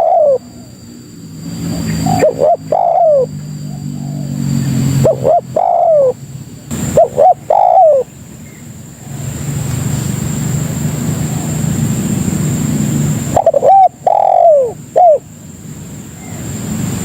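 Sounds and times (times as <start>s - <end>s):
dove cooing: 0.0s - 15.4s, 16.0s - 16.6s
thin high whine: 0.0s - 17.0s.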